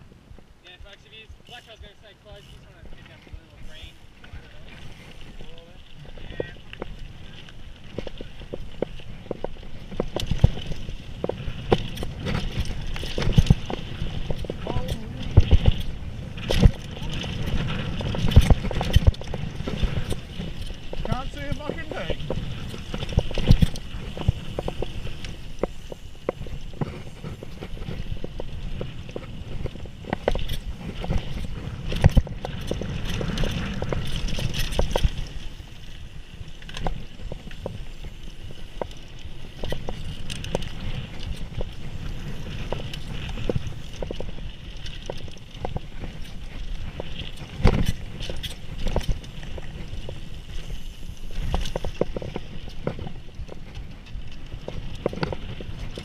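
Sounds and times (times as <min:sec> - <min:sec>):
bike tyres rolling on dirt: 0:00.0 - 0:56.0
bike rattling over bumps: 0:00.8 - 0:56.0.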